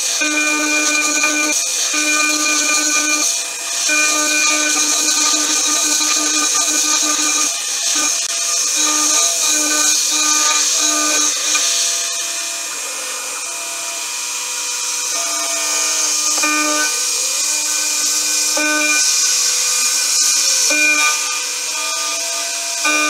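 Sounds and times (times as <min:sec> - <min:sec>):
milling machine spindle whine: 0:00.0 - 0:23.0.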